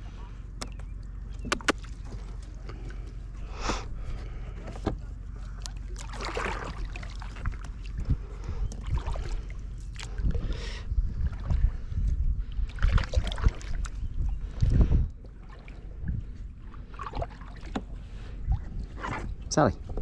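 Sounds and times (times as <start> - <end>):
steady low rumble: 0.0 - 20.0
paddle swishing through water: 1.8 - 19.5.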